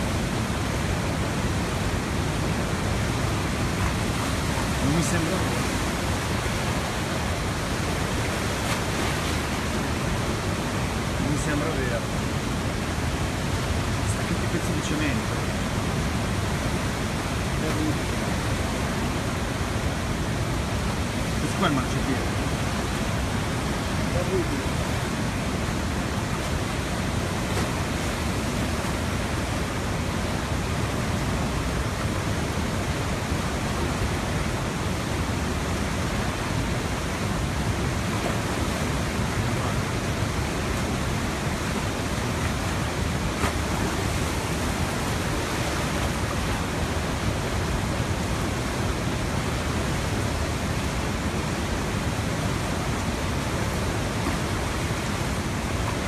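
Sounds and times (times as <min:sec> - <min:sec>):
flooded river rushing: 0:00.0 - 0:56.0.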